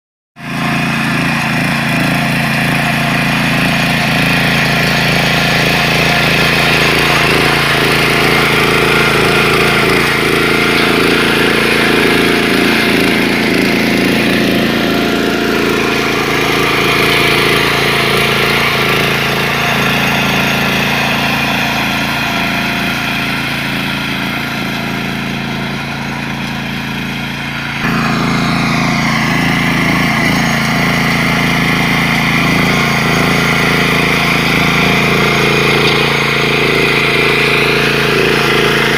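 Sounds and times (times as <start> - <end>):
small tractor engine running: 0.4 - 38.9.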